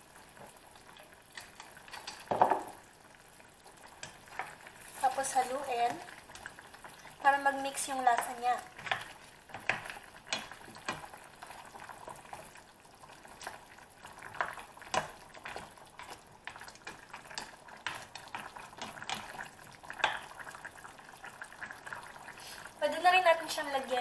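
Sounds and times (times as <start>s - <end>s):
sauce bubbling: 0.0s - 24.0s.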